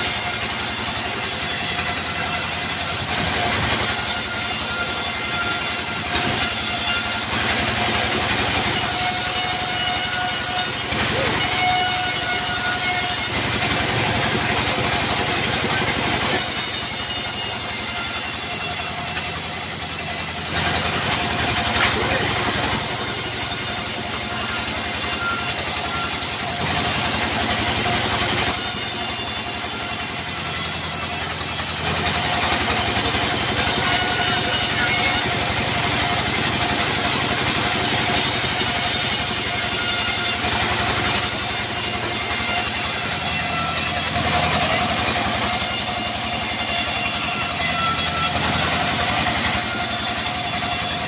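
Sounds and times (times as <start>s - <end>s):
band saw machine drone: 0.0s - 51.0s
saw blade screeching through log: 0.0s - 51.0s.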